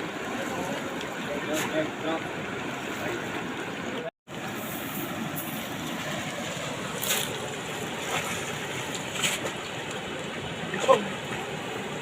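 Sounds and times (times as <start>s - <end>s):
water rushing over a weir: 0.0s - 12.0s.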